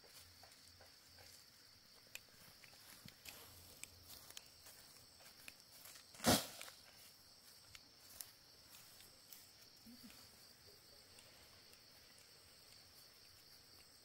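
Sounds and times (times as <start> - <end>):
light ticks and crackles: 0.0 - 6.0, 7.6 - 14.0
high insect chirring: 0.0 - 14.0.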